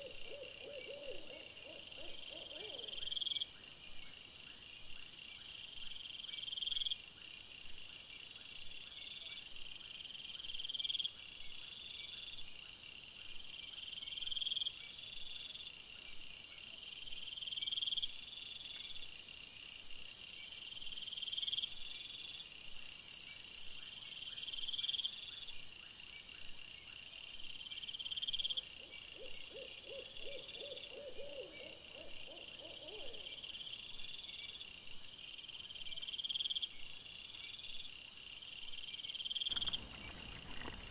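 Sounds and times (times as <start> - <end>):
crickets chirping: 0.0 - 40.9
high continuous insect trill: 0.0 - 40.9.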